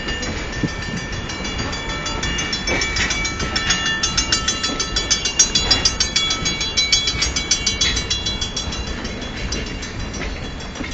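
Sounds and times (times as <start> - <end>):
railroad crossing bell ringing: 0.0 - 10.9
train rumbling: 0.0 - 10.9.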